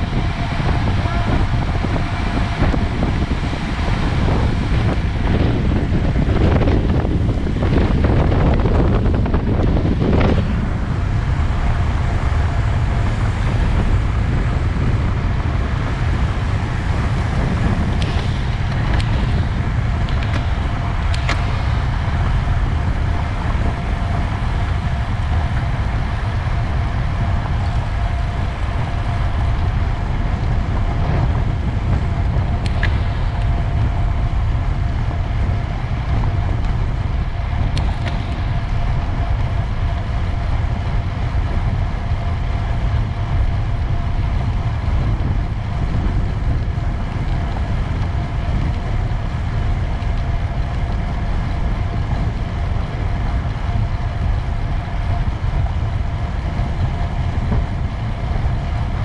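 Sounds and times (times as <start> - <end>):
faint steady whine: 0.0 - 59.0
road and tyre rumble: 0.0 - 59.0
wind buffeting microphone: 0.0 - 59.0.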